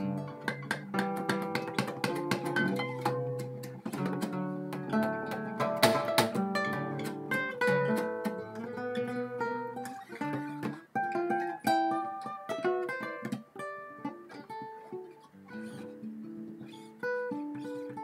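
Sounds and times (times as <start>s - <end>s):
acoustic guitar instrumental: 0.0s - 18.0s.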